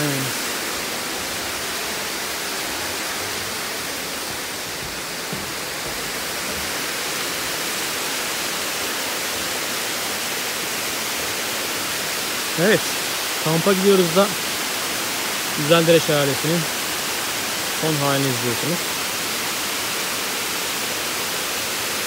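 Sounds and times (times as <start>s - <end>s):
waterfall splashing: 0.0s - 22.0s.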